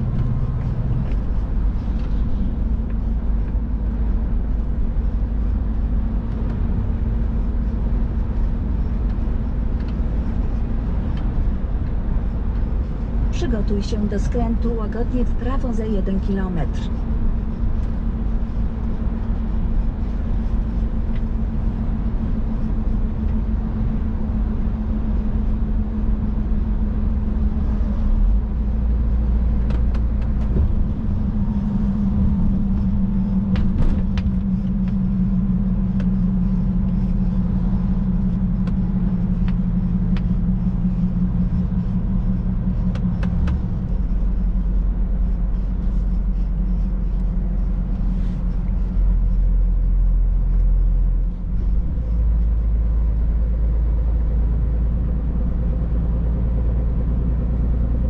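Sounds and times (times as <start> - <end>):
road and tyre rumble: 0.0 - 58.0
truck engine running: 0.0 - 58.0.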